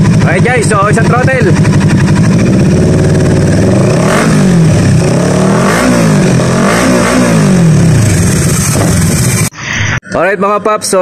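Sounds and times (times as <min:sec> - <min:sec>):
motorcycle engine idling and revving: 0:00.0 - 0:09.5.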